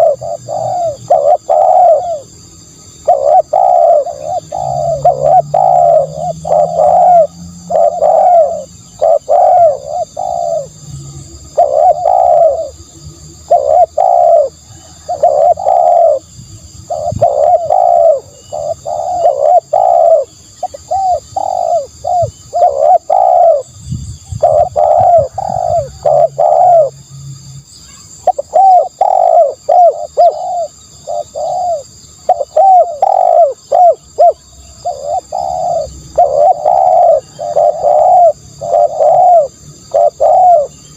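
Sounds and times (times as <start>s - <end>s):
dove cooing: 0.0s - 10.9s, 11.5s - 27.0s, 28.2s - 40.9s.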